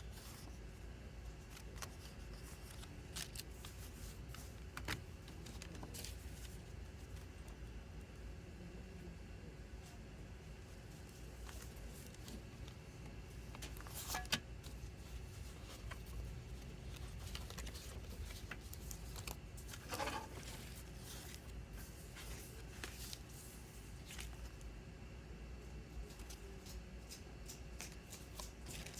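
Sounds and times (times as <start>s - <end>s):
plastic and paper rustling: 0.0s - 7.7s, 10.8s - 24.7s, 26.0s - 28.9s.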